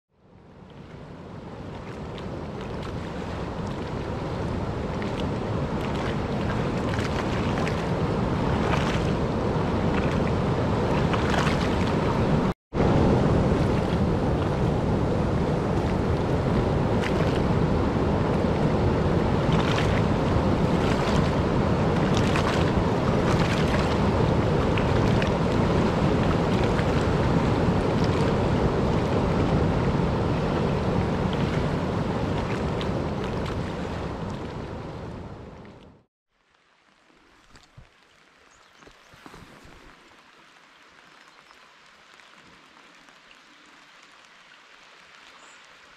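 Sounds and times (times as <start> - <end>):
rushing river: 0.3 - 45.9.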